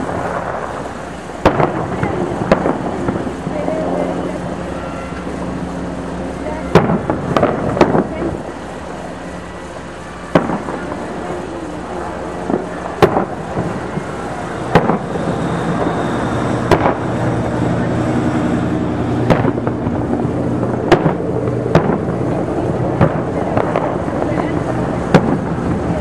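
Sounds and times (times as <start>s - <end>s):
fireworks bursting: 0.0s - 26.0s
steady background noise: 0.0s - 26.0s.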